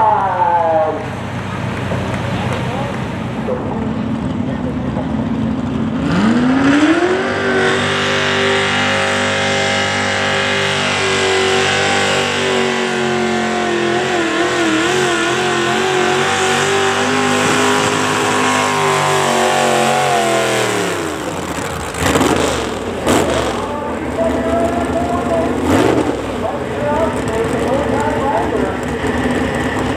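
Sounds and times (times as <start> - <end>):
pulling vehicle engine revving: 0.9 - 29.9.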